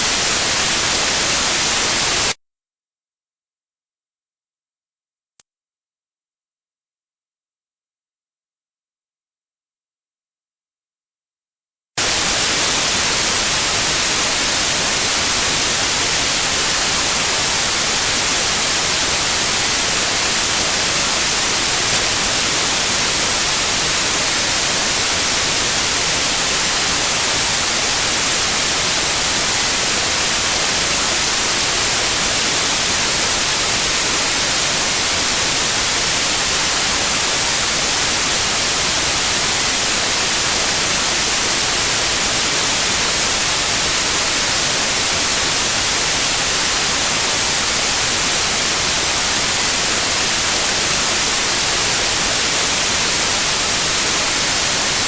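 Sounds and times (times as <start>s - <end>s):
white noise hiss: 0.0s - 2.4s, 12.0s - 55.0s
high pure tone: 0.0s - 2.5s, 12.0s - 55.0s.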